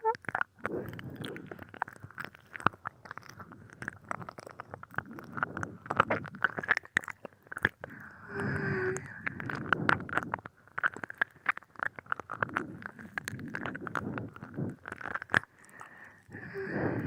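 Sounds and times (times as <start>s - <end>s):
mouth clicks and slurps: 0.0s - 17.0s
wet mouth and tongue sounds: 0.0s - 17.0s.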